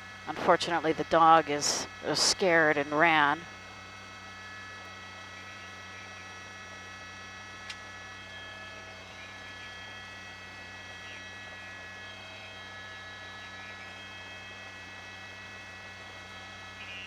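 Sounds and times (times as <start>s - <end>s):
helicopter cabin hum and whine: 0.0s - 17.0s.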